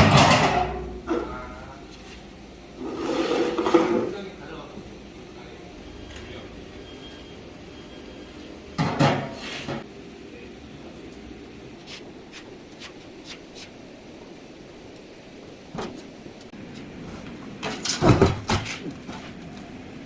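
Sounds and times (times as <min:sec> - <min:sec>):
low workshop background: 0:00.0 - 0:20.0.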